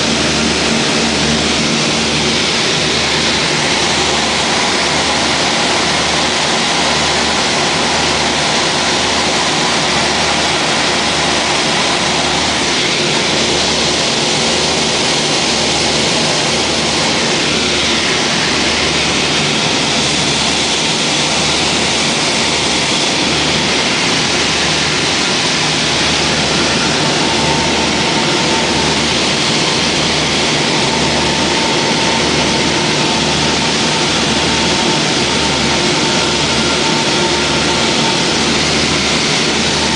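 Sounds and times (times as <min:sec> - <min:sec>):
aircraft engines droning: 0:00.0 - 0:39.9
loud cabin hiss: 0:00.0 - 0:39.9.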